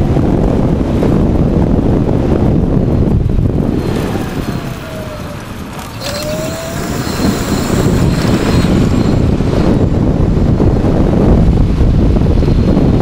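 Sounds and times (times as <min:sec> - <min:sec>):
wind rushing over microphone: 0:00.0 - 0:13.0
electric bike motor whine: 0:00.1 - 0:13.0.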